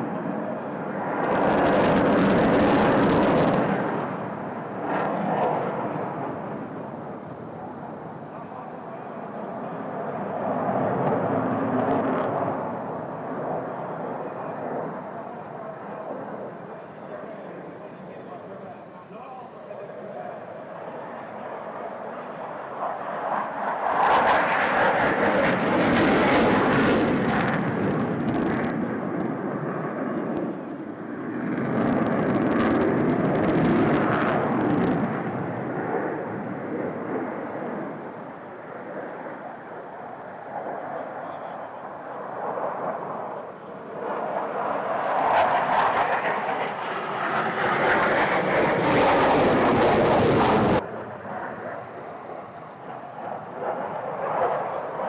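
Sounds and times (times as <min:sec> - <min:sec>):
fighter jet flying past: 0:00.0 - 0:18.8, 0:19.7 - 0:55.0.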